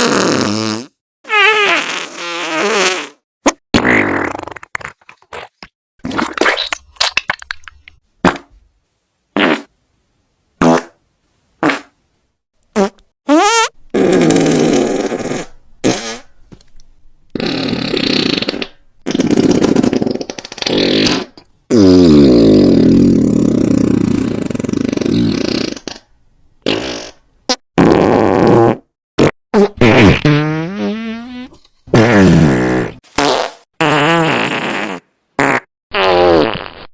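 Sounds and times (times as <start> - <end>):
fart sound effects: 0.0 - 6.8, 9.4 - 9.7, 10.6 - 11.0, 11.6 - 12.0, 12.8 - 16.3, 17.4 - 25.9, 26.6 - 36.9.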